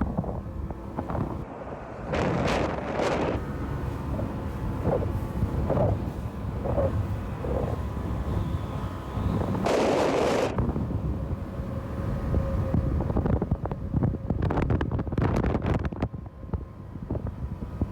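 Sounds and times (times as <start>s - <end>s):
wind rumbling on microphone: 0.0s - 17.9s.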